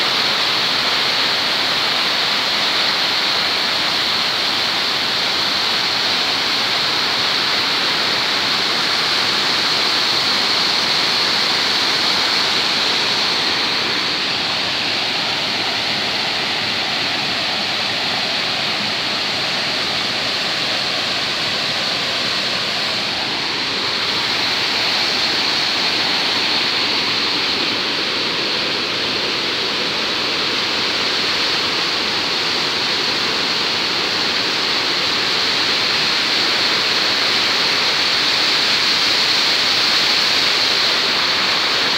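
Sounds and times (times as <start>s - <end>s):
white water rushing: 0.0s - 41.9s.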